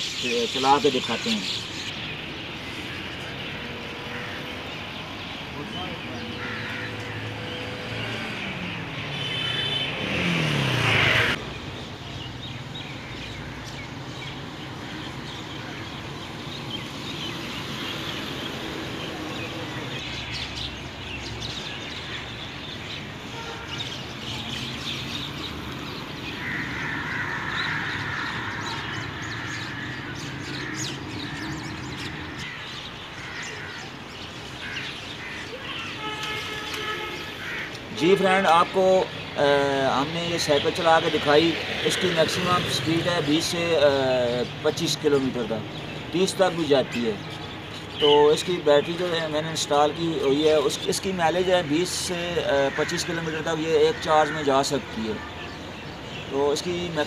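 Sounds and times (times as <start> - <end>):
birds chirping: 0.0 - 57.0
distant traffic: 0.0 - 57.0.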